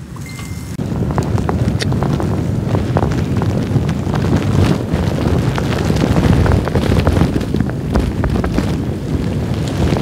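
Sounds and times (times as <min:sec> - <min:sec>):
wind buffeting microphone: 0:00.0 - 0:10.0
wood fire crackling: 0:00.0 - 0:10.0.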